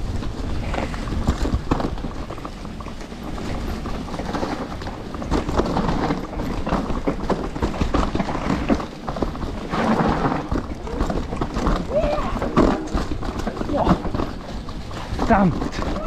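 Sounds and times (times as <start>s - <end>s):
bike clattering over bumps: 0.0s - 16.0s
bike tyres crunching over dirt: 0.0s - 16.0s
wind buffeting microphone: 0.0s - 16.0s.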